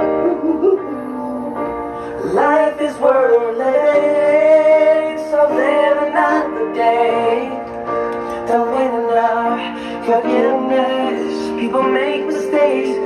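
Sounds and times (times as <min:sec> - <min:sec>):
chordal backing music: 0:00.0 - 0:13.0
person singing: 0:00.0 - 0:13.0.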